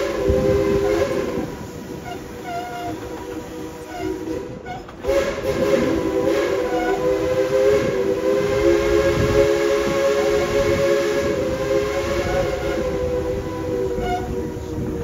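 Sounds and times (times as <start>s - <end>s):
steam locomotive chime whistle: 0.0s - 14.9s
train rumbling: 0.0s - 15.0s.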